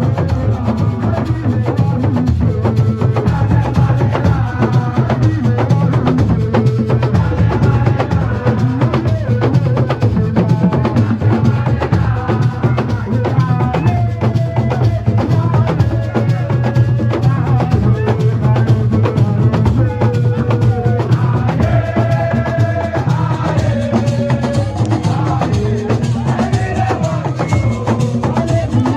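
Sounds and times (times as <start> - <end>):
fast dense drumming: 0.0 - 28.9.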